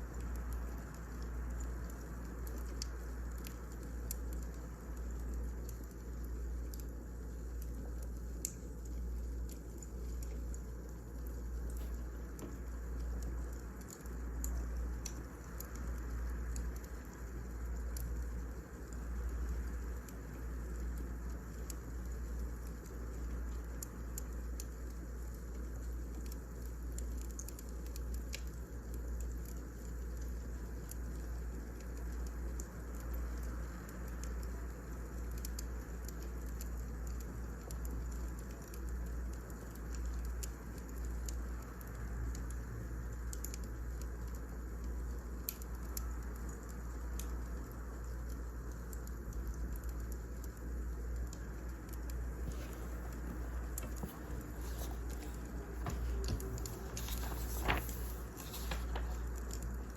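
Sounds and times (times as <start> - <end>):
fire crackles and pops: 0.0 - 59.9.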